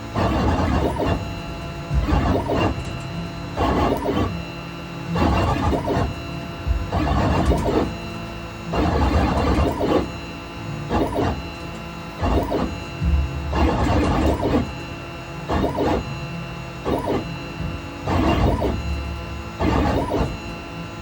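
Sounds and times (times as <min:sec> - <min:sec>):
machine motors whining: 0:00.0 - 0:21.0.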